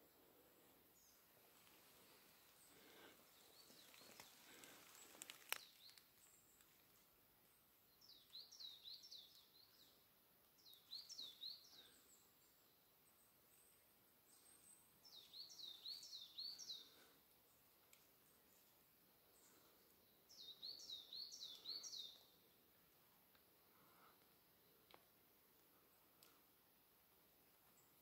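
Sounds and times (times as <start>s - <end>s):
songbird chirping: 0.0s - 28.0s.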